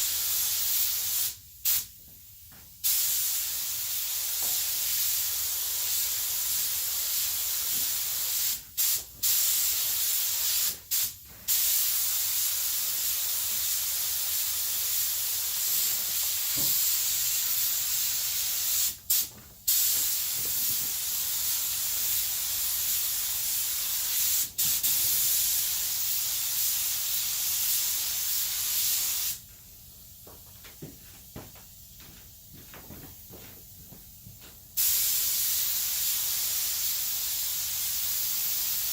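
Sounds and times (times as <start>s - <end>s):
spray gun hissing: 0.0s - 1.9s, 2.8s - 29.4s, 34.8s - 38.9s.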